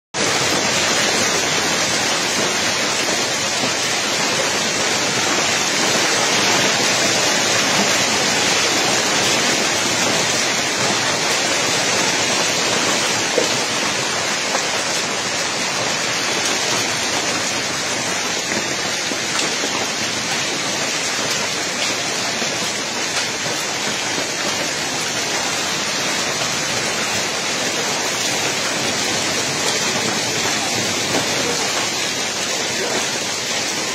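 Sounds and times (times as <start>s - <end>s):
hail and rain pelting pavement: 0.2s - 33.9s.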